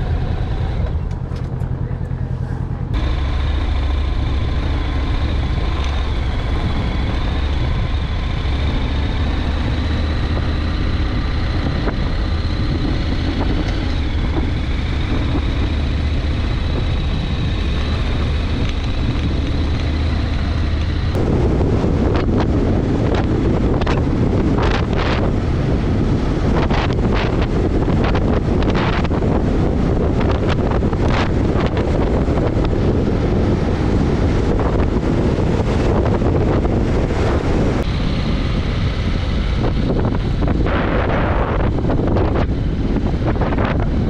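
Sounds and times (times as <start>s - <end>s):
motorcycle road noise: 0.0s - 44.0s
wind rushing over microphone: 0.0s - 44.0s.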